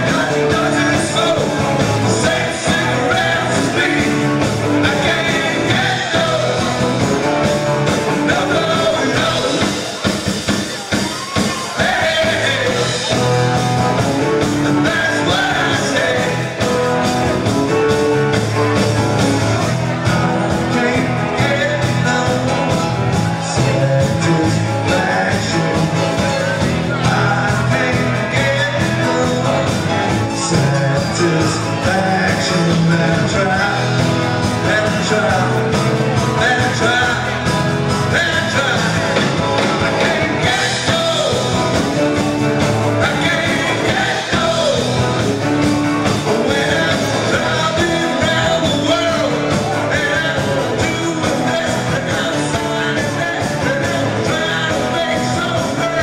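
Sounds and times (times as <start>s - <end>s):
drums: 0.0s - 56.0s
electric guitar: 0.0s - 56.0s
keyboard: 0.0s - 56.0s
man singing: 0.0s - 56.0s.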